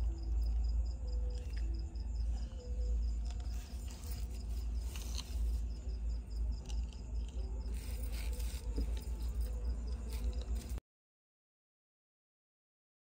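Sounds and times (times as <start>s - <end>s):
insect chirping: 0.0s - 10.8s
steady low rumble: 0.0s - 10.8s.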